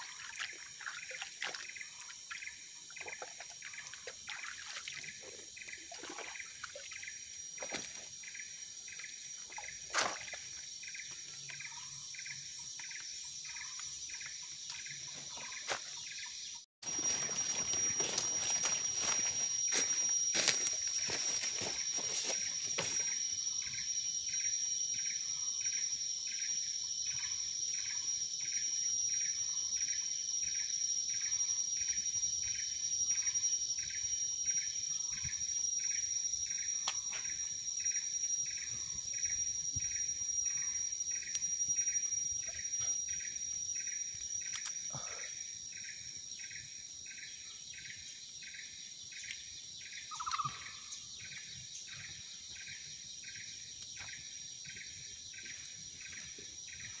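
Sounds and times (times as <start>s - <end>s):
insect chirp: 0.0s - 57.0s
insects droning high-pitched: 0.0s - 57.0s
low insect call: 0.0s - 57.0s.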